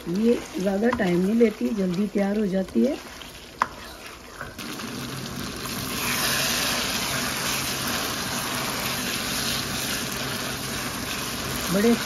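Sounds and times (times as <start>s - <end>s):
chicken sizzling in hot oil: 0.0s - 12.0s
spatula stirring in a pan: 0.0s - 12.0s.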